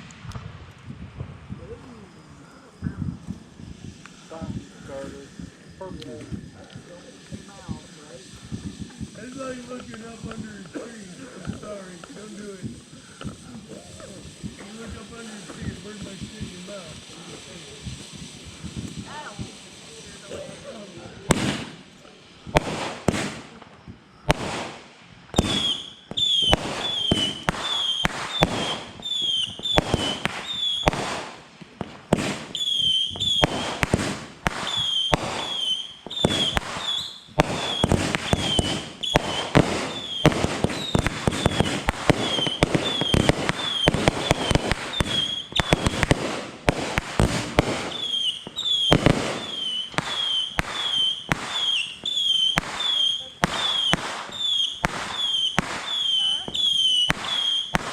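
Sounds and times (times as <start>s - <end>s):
firework whistles: 0.0s - 57.9s
fireworks bangs and crackles: 0.0s - 57.9s.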